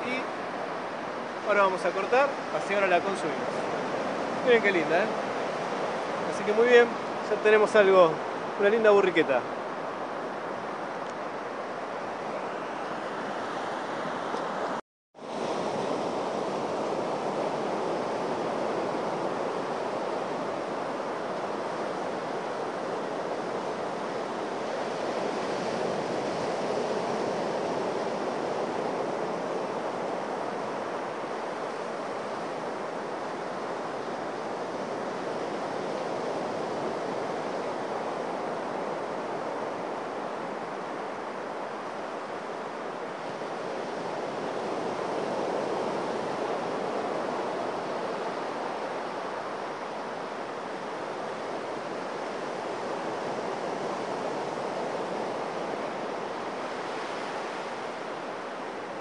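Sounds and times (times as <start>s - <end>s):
sea surf on sandy beach: 0.0s - 59.0s.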